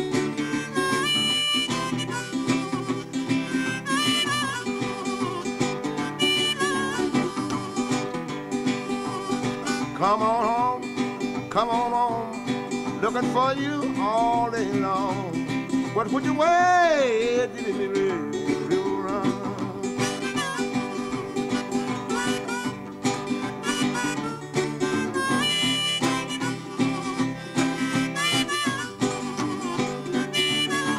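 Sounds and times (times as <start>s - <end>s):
guitar picking: 0.0s - 30.9s
harmonica bending notes: 0.0s - 30.9s.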